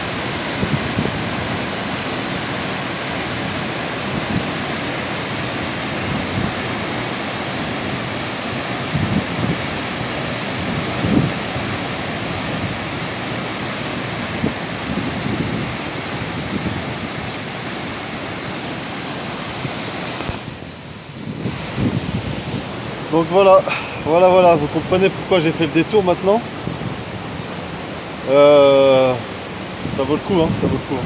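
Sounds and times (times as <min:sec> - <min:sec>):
waterfall rushing: 0:00.0 - 0:31.0
wind gusts on microphone: 0:00.0 - 0:31.0.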